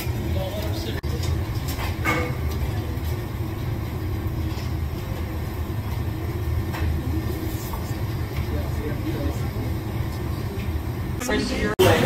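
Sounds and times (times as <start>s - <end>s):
exhaust fans rumbling: 0.0s - 12.0s.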